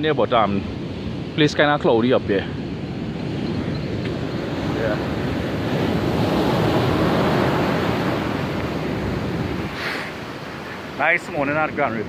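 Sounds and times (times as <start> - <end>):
surf washing up beach: 0.0 - 12.0
wind buffeting microphone: 0.0 - 12.0.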